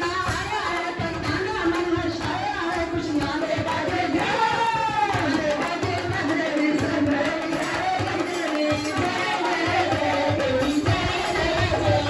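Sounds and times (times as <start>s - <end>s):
woman singing through microphone: 0.0s - 12.0s.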